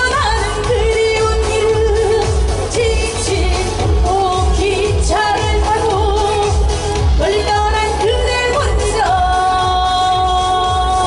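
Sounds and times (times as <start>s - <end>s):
amplified accompaniment with bass beat: 0.0s - 11.0s
woman singing pop song: 0.0s - 11.0s.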